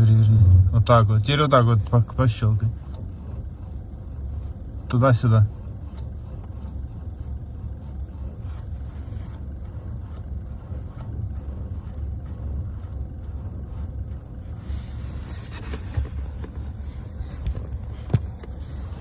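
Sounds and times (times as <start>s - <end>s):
steady low rumble: 0.0s - 19.0s
power steering clicks: 1.3s - 19.0s.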